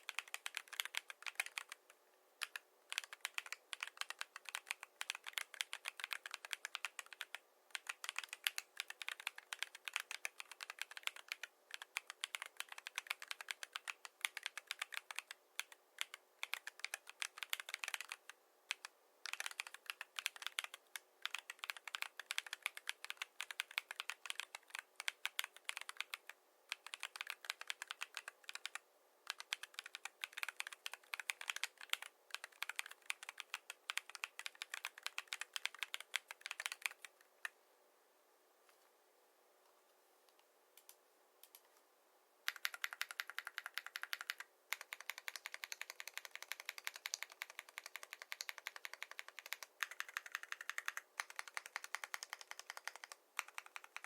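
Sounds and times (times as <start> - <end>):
mechanical keyboard typing: 0.0 - 1.8, 2.4 - 37.5, 42.5 - 54.0.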